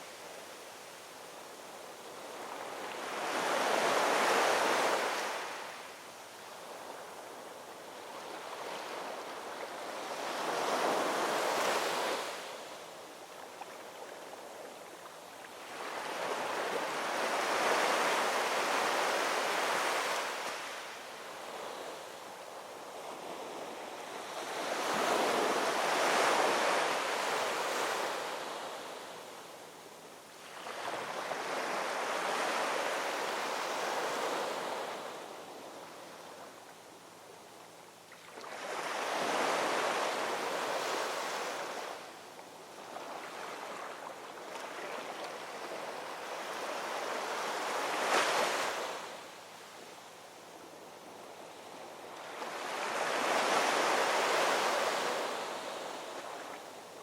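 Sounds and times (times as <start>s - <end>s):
ocean waves rolling in: 1.3s - 6.0s, 6.6s - 37.1s, 38.0s - 57.0s.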